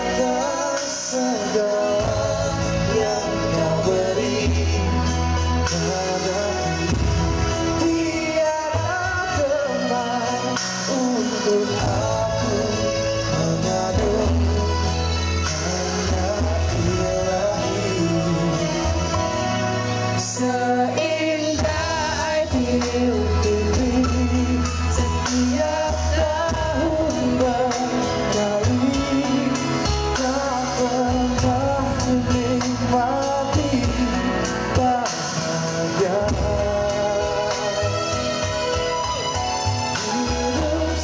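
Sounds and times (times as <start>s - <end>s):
amplified pop backing music: 0.0s - 41.0s
man singing into a microphone: 0.0s - 41.0s.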